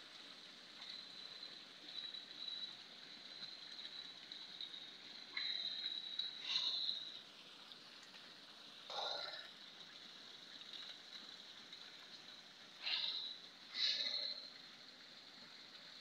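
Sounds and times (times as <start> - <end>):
fountain water splashing into basin: 0.0 - 16.0.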